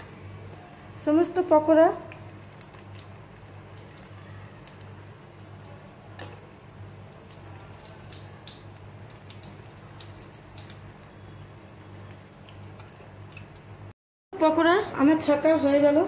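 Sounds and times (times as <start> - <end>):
deep-frying sizzle and pops: 0.0 - 14.0.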